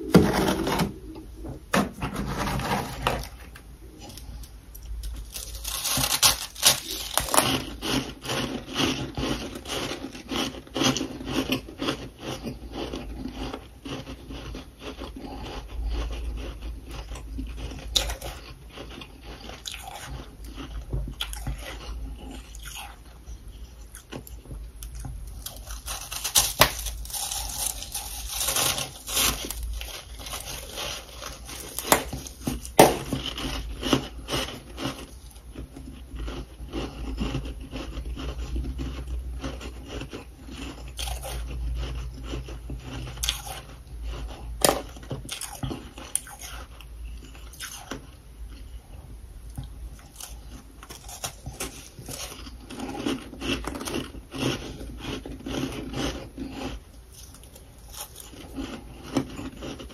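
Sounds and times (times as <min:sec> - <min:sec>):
crunching frost being chewed: 0:02.2 - 0:59.9.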